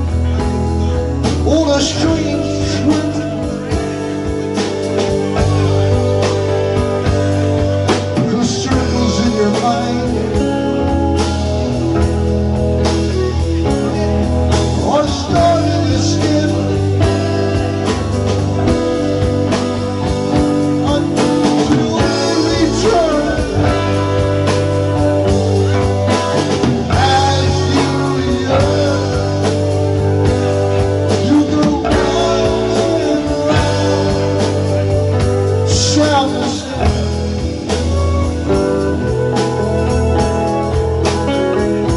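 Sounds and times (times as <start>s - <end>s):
live rock band playing: 0.0s - 41.9s
man singing: 0.0s - 41.9s.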